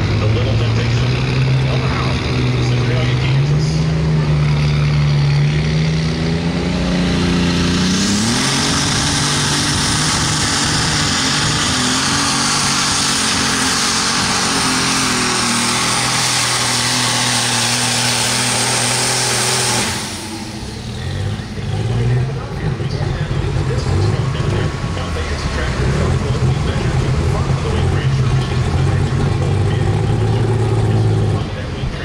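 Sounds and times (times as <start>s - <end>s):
tractor engine revving: 0.0s - 32.0s.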